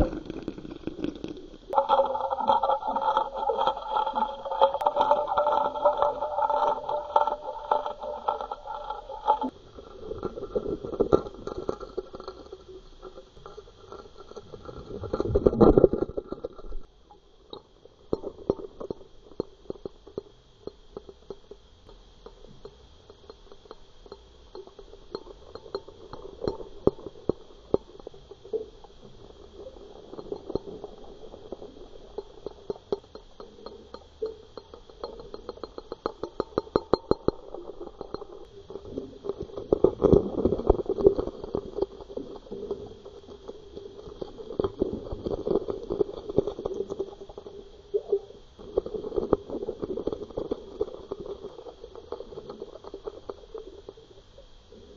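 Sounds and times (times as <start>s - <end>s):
spinnerbait blades clicking underwater: 0.0s - 9.6s, 17.5s - 54.1s
steady underwater hum: 0.0s - 54.9s.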